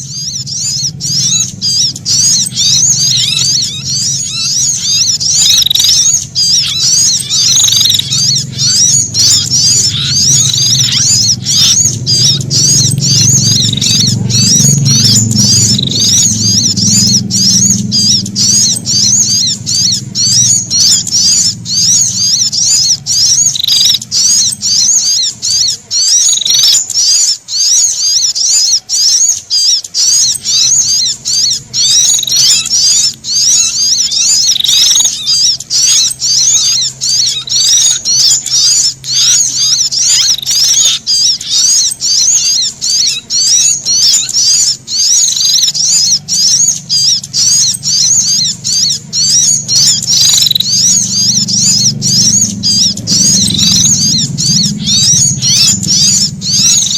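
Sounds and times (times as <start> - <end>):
low hum: 0.0 - 25.9, 30.3 - 56.9
bird alarm calls chattering: 0.0 - 56.9.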